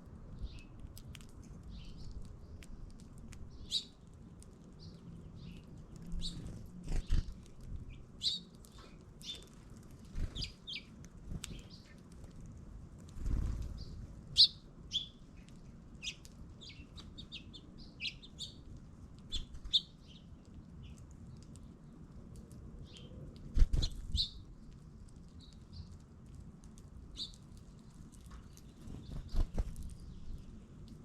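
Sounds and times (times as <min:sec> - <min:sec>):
small birds chirping: 0:00.3 - 0:12.3, 0:13.1 - 0:26.1, 0:27.1 - 0:31.0.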